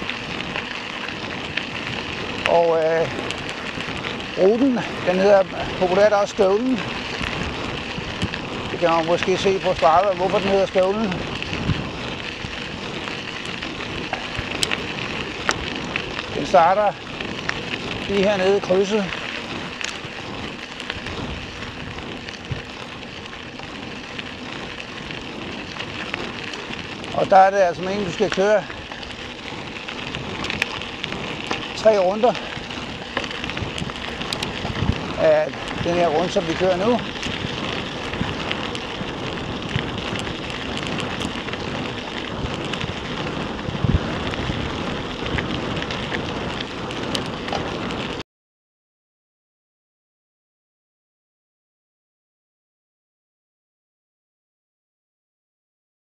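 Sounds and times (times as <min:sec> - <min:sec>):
bicycle tyres crunching on gravel: 0:00.0 - 0:48.2
bike rattling: 0:00.0 - 0:48.2.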